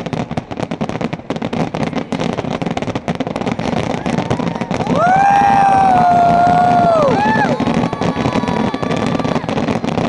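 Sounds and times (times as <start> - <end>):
fireworks banging: 0.0 - 10.0.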